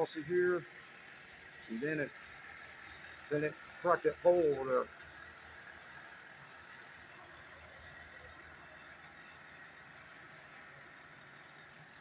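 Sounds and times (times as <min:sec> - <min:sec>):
distant vehicle engine hum: 0:00.0 - 0:12.0
outdoor background noise: 0:00.0 - 0:12.0.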